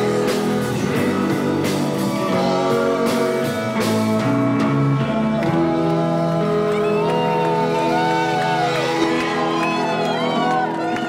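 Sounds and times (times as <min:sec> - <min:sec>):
drums: 0:00.0 - 0:11.0
electric guitars: 0:00.0 - 0:11.0.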